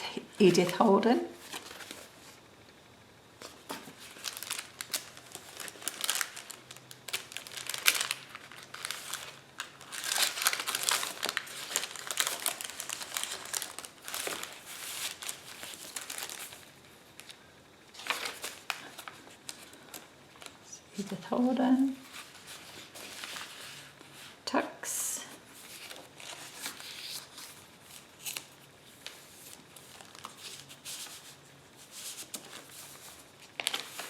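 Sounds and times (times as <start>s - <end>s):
paper rustling and crinkling: 0.4s - 2.4s, 3.4s - 20.6s, 21.9s - 24.4s, 25.4s - 34.0s.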